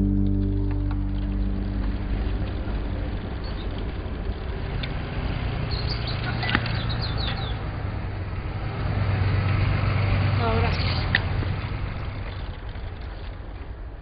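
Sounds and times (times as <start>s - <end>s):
steady outdoor noise: 0.0s - 14.0s
vehicle engine rumble: 0.0s - 14.0s.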